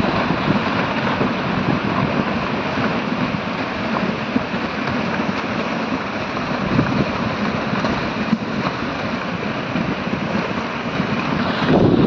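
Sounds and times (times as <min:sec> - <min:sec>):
flood torrent rushing: 0:00.0 - 0:12.0.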